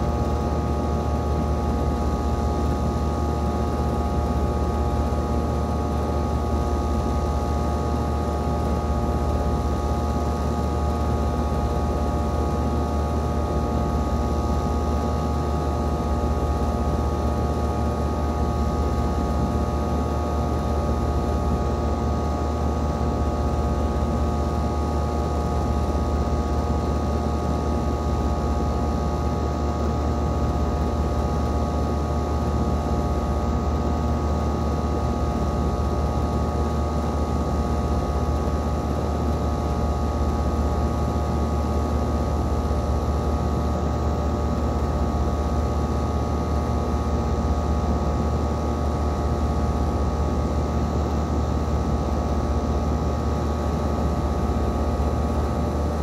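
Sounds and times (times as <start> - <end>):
air conditioner unit humming: 0.0 - 56.0
rushing fan noise: 0.0 - 56.0.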